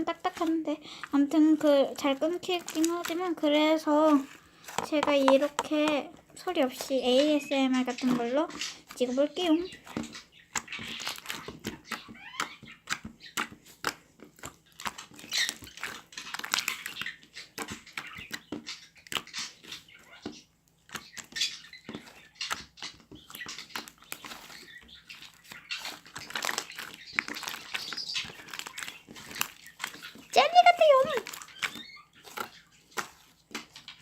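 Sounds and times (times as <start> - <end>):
slime squelching and popping: 0.0 - 34.0.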